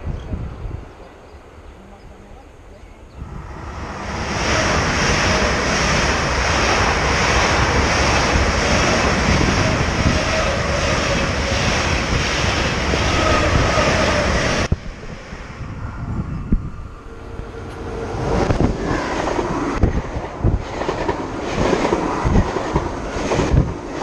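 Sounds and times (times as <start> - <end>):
wind buffeting microphone: 0.0 - 2.2, 3.0 - 24.0
electric train passing: 3.1 - 24.0.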